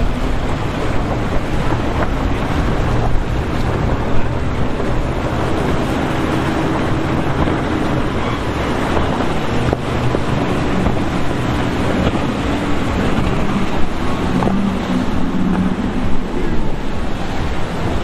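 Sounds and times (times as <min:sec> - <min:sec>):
boat engines running: 0:00.0 - 0:18.0
waves and wake: 0:00.0 - 0:18.0
wind buffeting microphone: 0:00.0 - 0:18.0.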